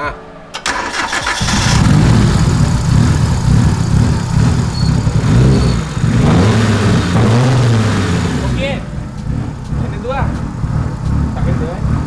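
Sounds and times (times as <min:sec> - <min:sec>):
car engine running unevenly: 0:01.1 - 0:12.0.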